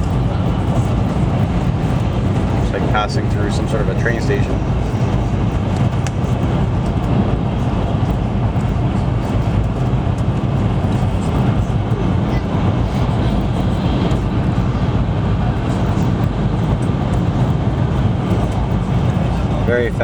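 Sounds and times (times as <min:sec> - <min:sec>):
train running noise inside car: 0:00.0 - 0:20.0.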